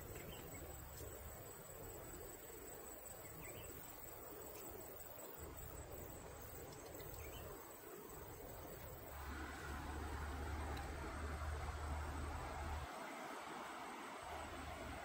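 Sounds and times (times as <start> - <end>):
crickets and insects chirping: 0.0 - 15.0
low hiss: 0.0 - 15.0.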